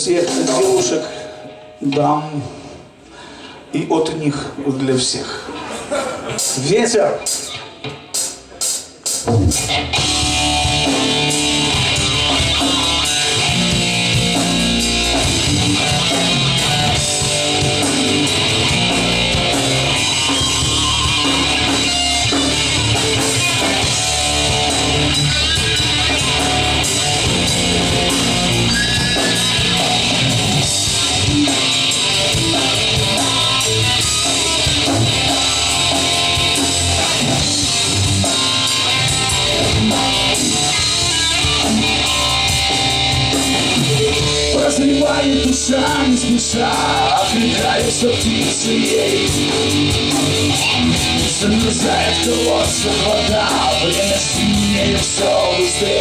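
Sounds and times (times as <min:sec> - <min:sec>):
rock band playing: 0:00.0 - 0:03.5, 0:05.4 - 0:56.0.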